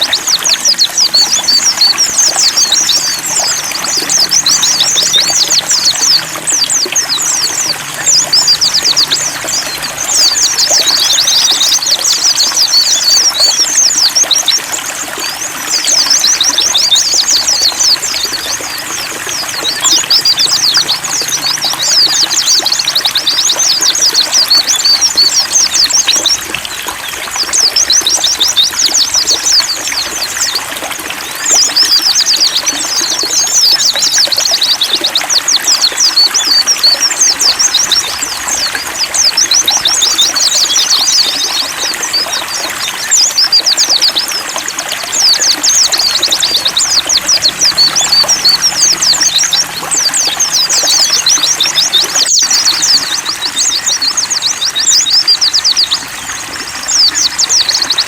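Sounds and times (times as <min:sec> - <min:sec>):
birds twittering rapidly: 0:00.0 - 0:58.0
trickle of running water: 0:00.0 - 0:58.0.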